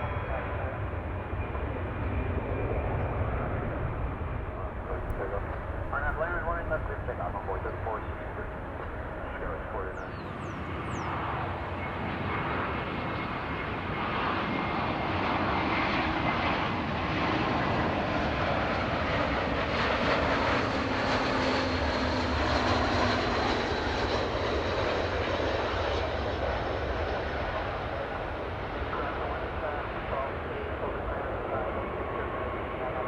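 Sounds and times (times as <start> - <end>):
jet plane passing: 0.0 - 33.0.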